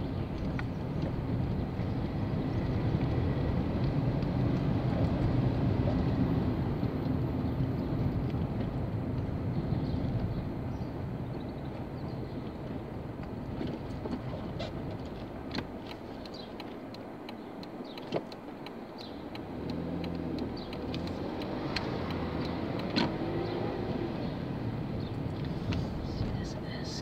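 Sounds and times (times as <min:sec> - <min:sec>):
car engine: 0:00.0 - 0:27.0
road noise: 0:00.0 - 0:27.0
steady engine hum: 0:00.0 - 0:27.0.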